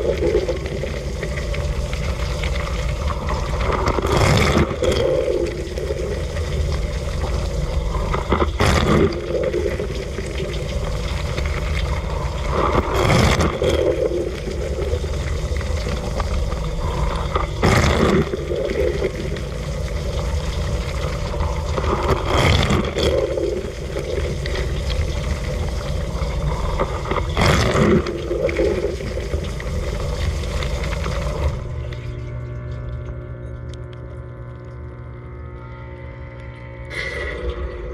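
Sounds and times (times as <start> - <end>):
water spraying and splashing: 0.0 - 31.8.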